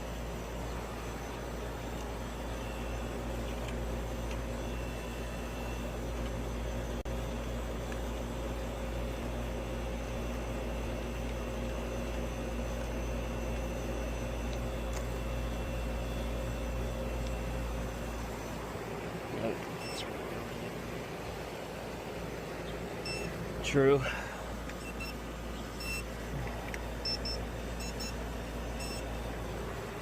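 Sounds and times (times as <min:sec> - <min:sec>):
air conditioner unit humming: 0:00.0 - 0:30.0.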